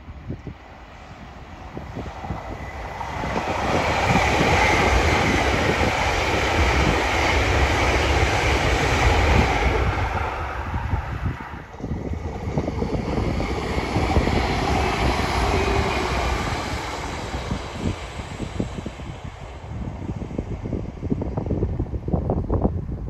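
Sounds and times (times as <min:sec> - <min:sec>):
passenger train passing: 0:00.0 - 0:23.0.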